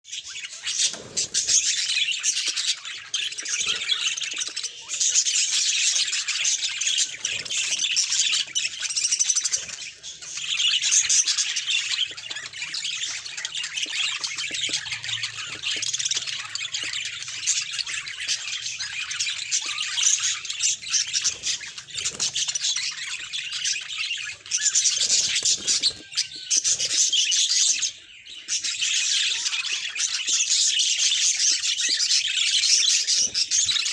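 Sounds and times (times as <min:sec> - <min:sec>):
budgerigars chattering: 0:00.1 - 0:33.9.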